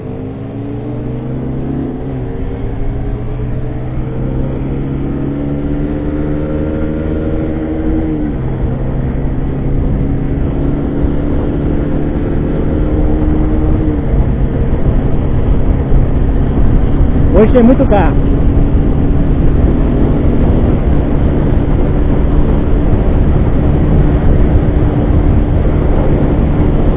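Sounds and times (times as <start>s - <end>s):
motorcycle engine accelerating: 0.0s - 26.9s
wind noise: 0.0s - 26.9s.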